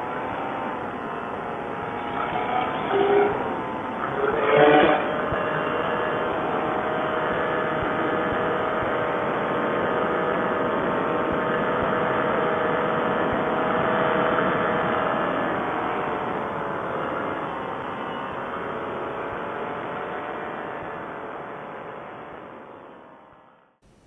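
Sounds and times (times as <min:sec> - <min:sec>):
paramotor engine and propeller: 0:00.0 - 0:23.4.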